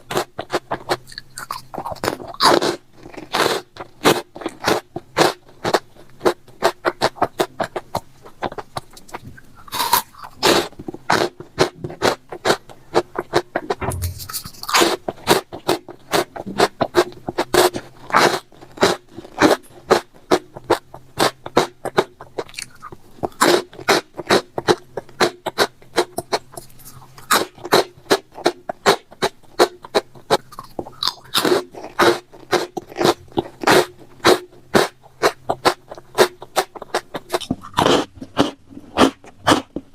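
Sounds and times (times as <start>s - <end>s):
crisp crunching and chewing: 0.0s - 39.9s.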